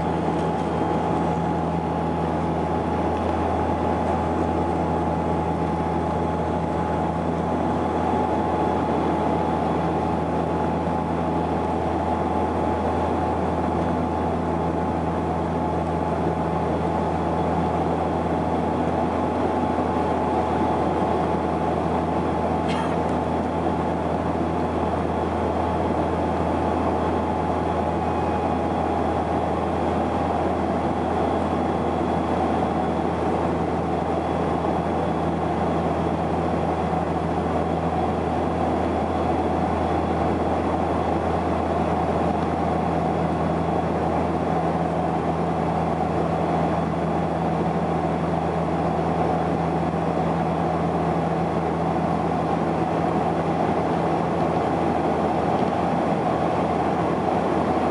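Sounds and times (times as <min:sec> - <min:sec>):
propeller hum: 0:00.0 - 0:57.9.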